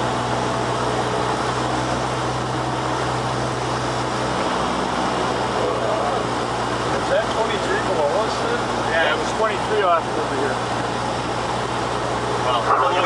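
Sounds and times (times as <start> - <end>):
propeller engine drone: 0.0 - 13.0.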